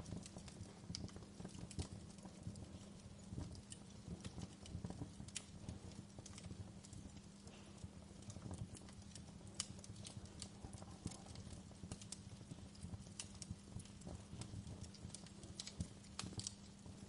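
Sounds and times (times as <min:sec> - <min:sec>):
low rumble of flames: 0:00.0 - 0:17.0
steady low hum: 0:00.0 - 0:17.0
wood fire crackling: 0:00.0 - 0:17.0.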